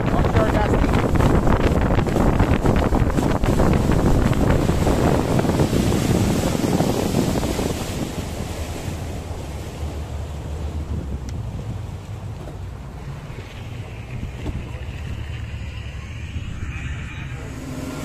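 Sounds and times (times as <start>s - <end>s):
boat engine drone: 0.0s - 18.0s
water rushing past boat: 0.0s - 18.0s
wind buffeting microphone: 0.0s - 18.0s.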